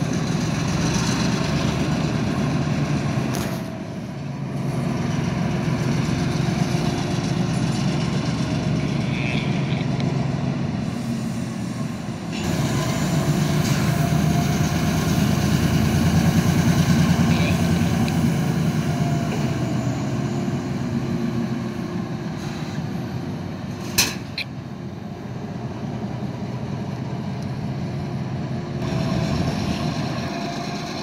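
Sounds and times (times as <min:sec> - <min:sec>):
diesel locomotive engine humming: 0:00.0 - 0:31.0.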